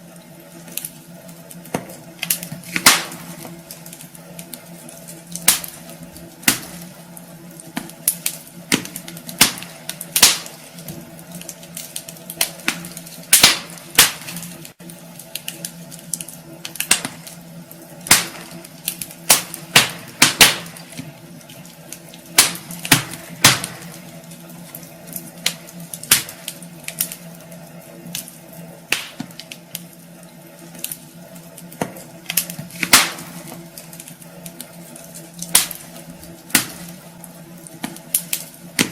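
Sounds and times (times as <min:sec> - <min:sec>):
low steady hum: 0:00.0 - 0:38.9
wood fire crackling: 0:00.0 - 0:38.9.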